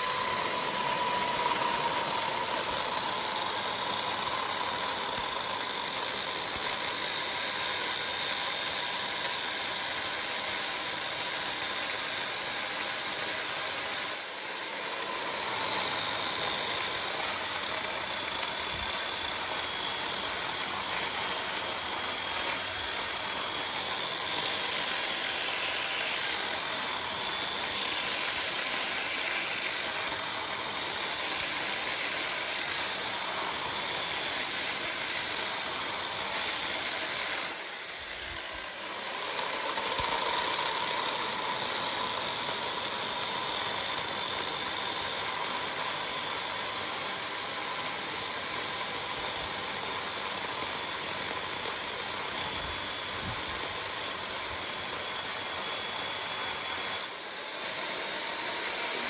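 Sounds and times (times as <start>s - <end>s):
power tool hissing whine: 0.0s - 59.0s.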